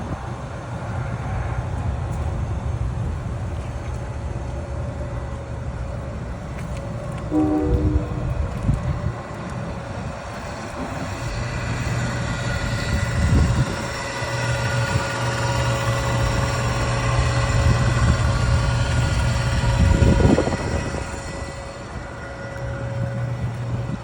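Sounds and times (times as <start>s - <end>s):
hvac unit droning: 0.0s - 24.0s
hvac unit louder rumbles: 0.0s - 24.0s.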